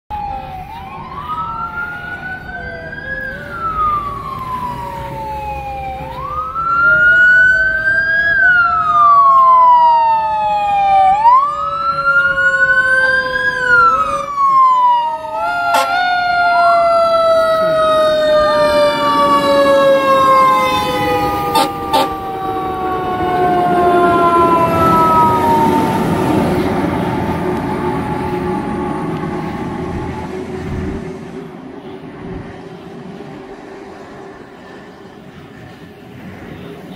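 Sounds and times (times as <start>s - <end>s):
siren tone winding down: 0.1s - 31.0s
wail siren rising and falling: 0.1s - 31.8s
heavy truck engine rumble: 0.1s - 36.9s.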